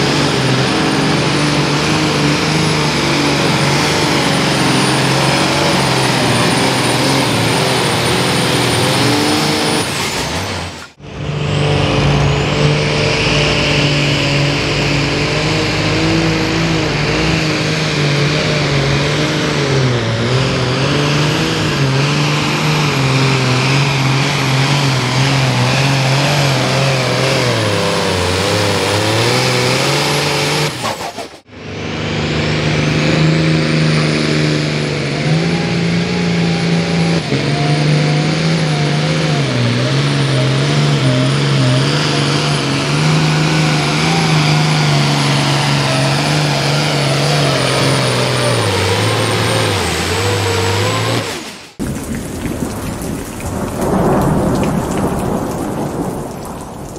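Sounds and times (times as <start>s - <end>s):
diesel engine under load: 0.0s - 56.9s.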